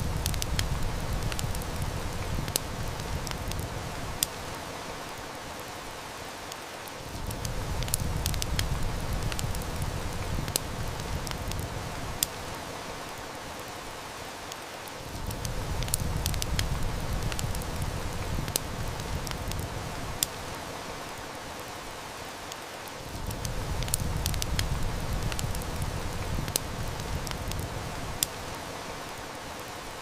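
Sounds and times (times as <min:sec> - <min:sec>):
heavy rain falling: 0:00.0 - 0:30.0
wood fire crackling: 0:00.0 - 0:30.0.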